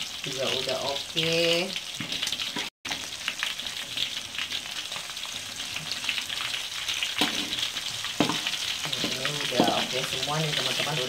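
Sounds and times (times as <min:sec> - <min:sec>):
shrimp sizzling in hot oil: 0:00.0 - 0:11.0.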